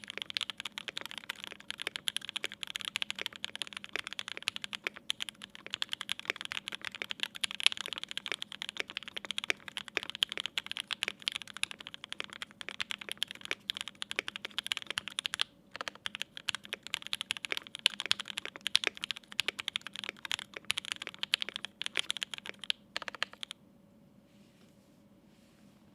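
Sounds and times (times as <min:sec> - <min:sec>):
mechanical keyboard typing: 0:00.0 - 0:23.6.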